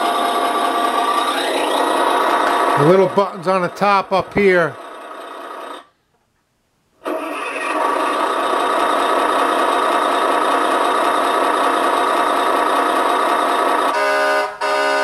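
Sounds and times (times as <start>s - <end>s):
toy electronic engine sound: 0.0s - 5.9s, 7.0s - 15.0s.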